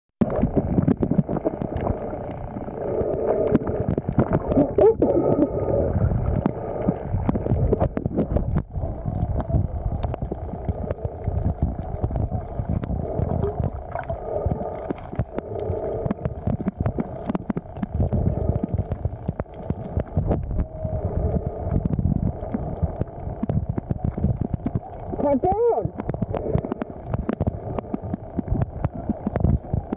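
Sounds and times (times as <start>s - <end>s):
underwater rumble and gurgling: 0.2s - 29.9s.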